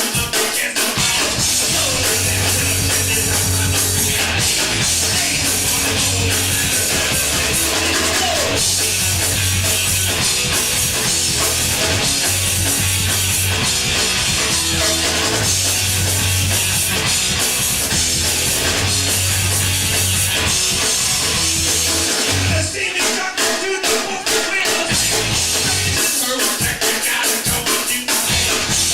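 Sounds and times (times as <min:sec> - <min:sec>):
bass guitar: 0:00.0 - 0:28.9
distorted electric guitars: 0:00.0 - 0:28.9
drum kit with crashing cymbals: 0:00.0 - 0:28.9.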